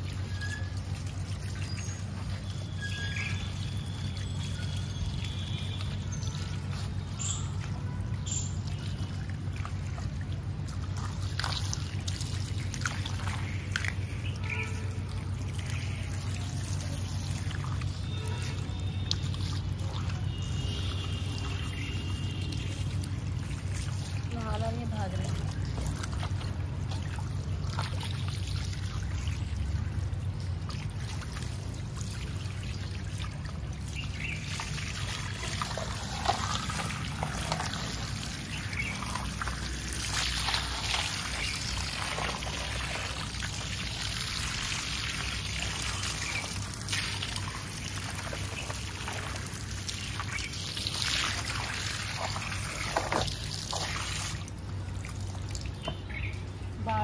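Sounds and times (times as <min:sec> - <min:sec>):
hose water spraying and splashing: 0:00.0 - 0:57.0.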